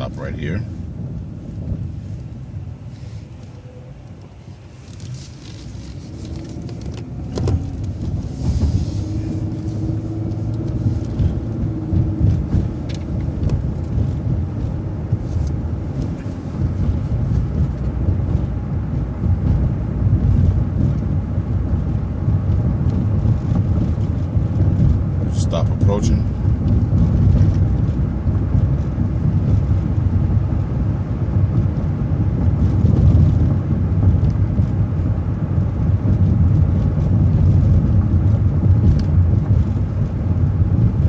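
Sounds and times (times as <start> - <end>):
bus engine rumbling: 0.0 - 41.0.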